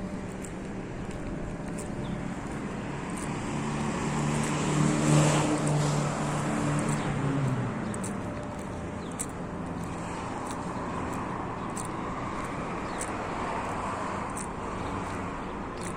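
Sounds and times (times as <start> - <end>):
road noise: 0.0 - 15.9
vehicle engine hum: 0.0 - 15.9.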